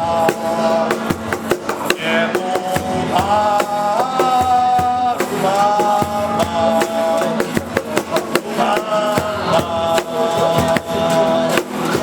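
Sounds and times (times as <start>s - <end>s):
drum kit beat: 0.0s - 12.0s
guitar: 0.0s - 12.0s.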